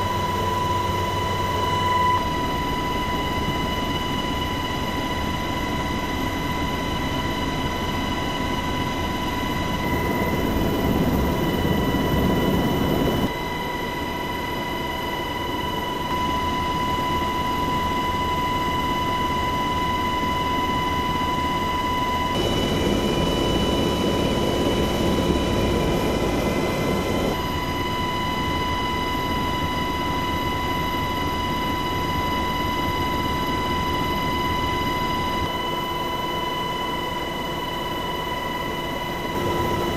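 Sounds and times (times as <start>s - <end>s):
helicopter rotor and engine noise: 0.0s - 39.9s
high constant whine: 0.0s - 39.9s.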